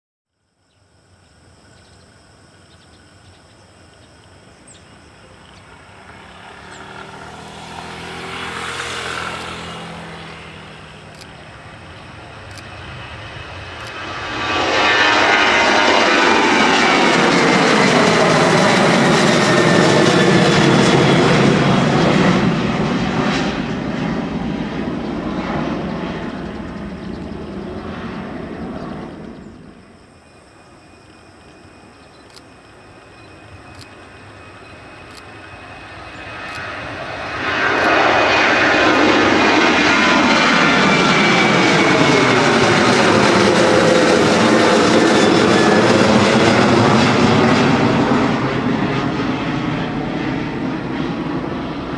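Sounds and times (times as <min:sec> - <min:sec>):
jet engines at takeoff power: 0:00.4 - 0:51.9.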